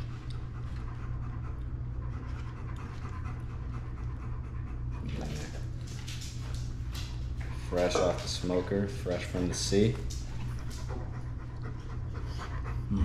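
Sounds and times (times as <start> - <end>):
dog panting: 0.0 - 13.0
steady low hum: 0.0 - 13.0.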